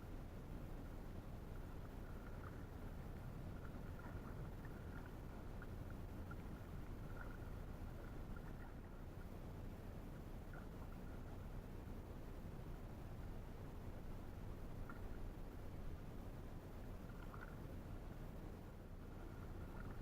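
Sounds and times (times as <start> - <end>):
canoe moving on river: 0.0 - 20.0.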